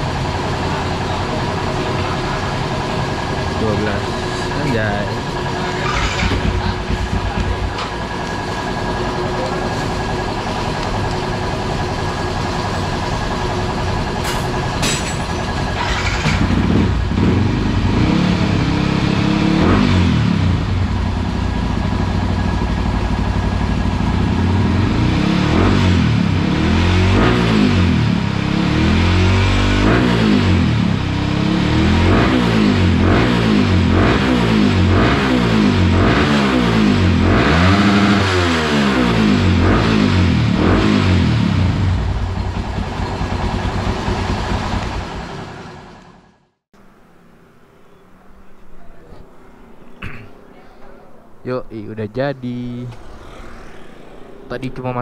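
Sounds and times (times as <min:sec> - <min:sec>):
motorcycle engine revving: 0:00.0 - 0:46.5, 0:52.0 - 0:55.0.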